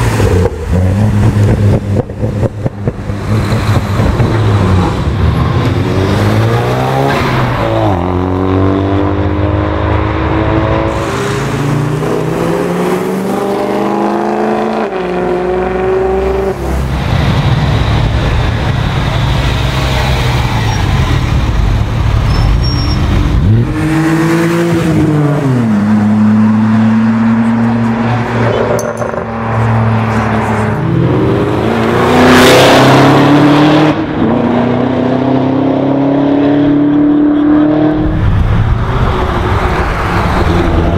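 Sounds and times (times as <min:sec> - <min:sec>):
sports car engines revving: 0:00.0 - 0:40.9.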